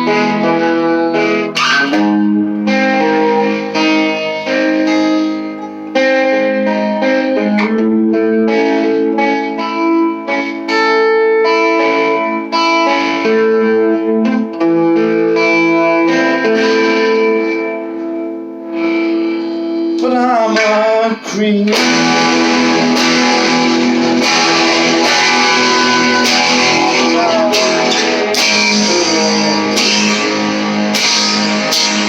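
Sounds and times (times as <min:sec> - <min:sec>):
electric guitar chords: 0:00.0 - 0:32.0.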